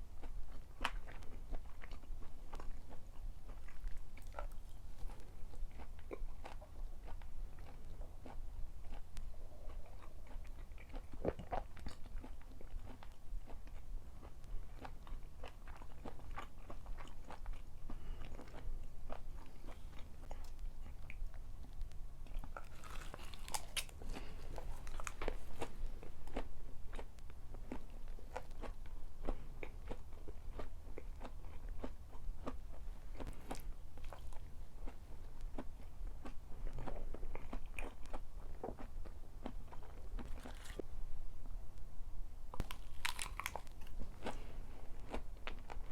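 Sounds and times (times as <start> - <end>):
chewing and crunching food: 0.0 - 40.9, 42.5 - 45.9.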